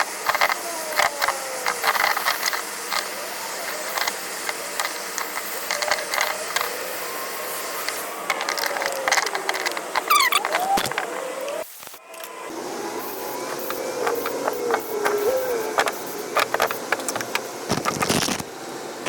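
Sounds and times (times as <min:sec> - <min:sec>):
angle grinder grinding wood: 0:00.0 - 0:18.6.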